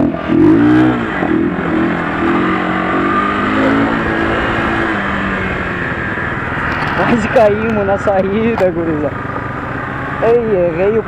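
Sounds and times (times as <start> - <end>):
rushing wind noise: 0.0 - 9.0
motorcycle engine pulling: 0.0 - 11.0.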